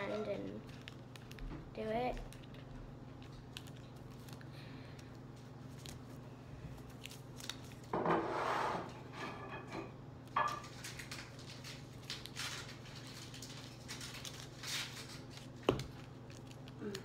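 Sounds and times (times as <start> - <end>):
paper crinkling: 0.0 - 7.9, 10.6 - 17.0.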